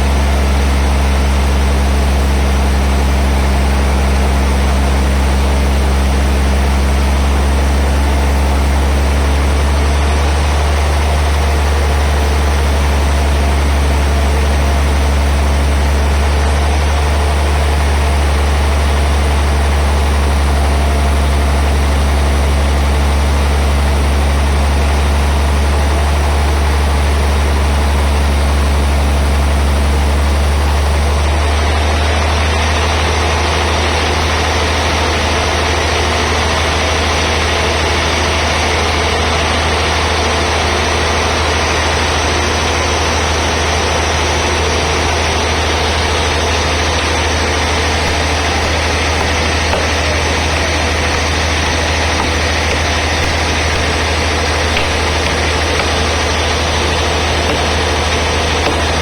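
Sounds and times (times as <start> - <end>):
band saw machinery running: 0.0 - 59.0.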